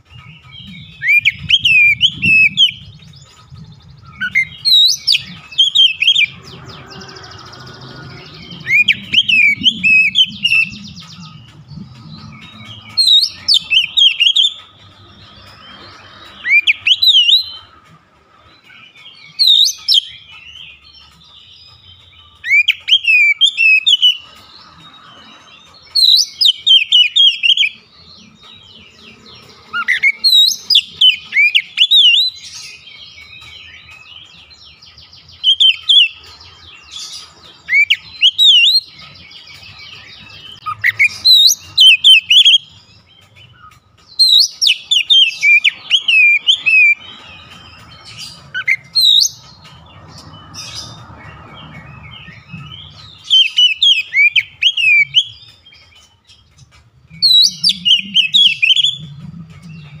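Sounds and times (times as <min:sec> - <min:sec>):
bird singing whistled notes: 0:00.0 - 0:17.8, 0:18.6 - 1:00.0.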